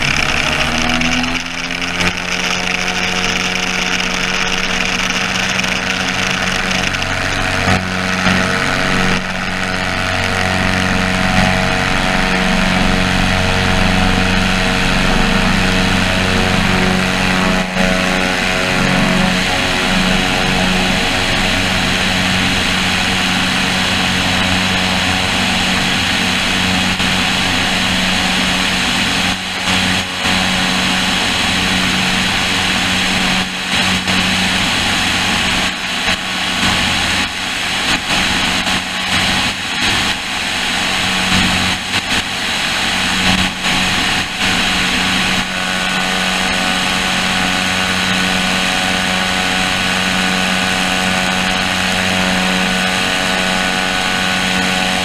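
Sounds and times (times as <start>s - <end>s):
aircraft piston engines droning: 0.0s - 55.0s.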